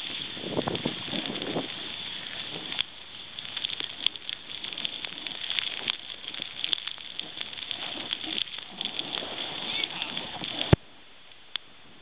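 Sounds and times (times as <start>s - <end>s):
snowboard sliding through powder: 0.0s - 12.0s.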